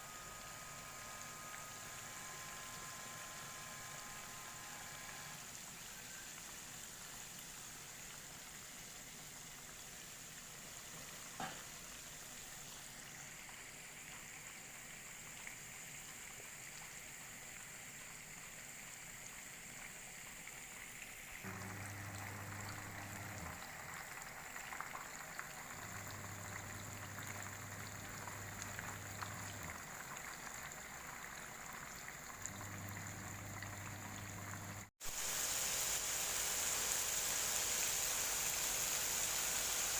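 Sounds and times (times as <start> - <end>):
deep-frying oil sizzling: 0.0 - 39.9.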